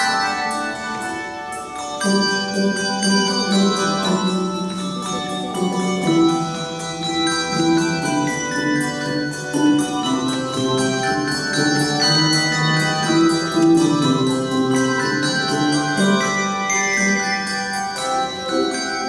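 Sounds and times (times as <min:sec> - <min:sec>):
handbell choir playing: 0:00.0 - 0:19.0.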